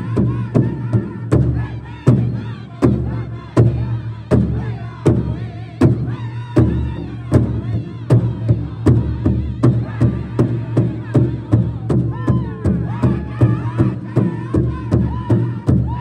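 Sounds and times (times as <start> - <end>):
group singing in high voices: 0.0 - 16.0
large bass drum beat: 0.0 - 16.0.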